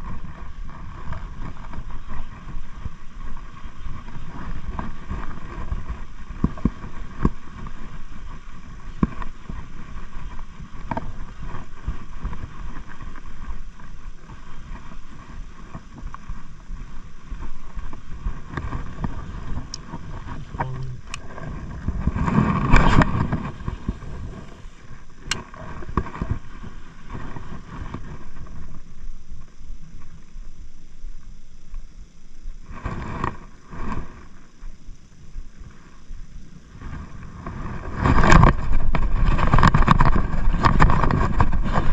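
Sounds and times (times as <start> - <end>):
wind rumbling on microphone: 0.0 - 41.9.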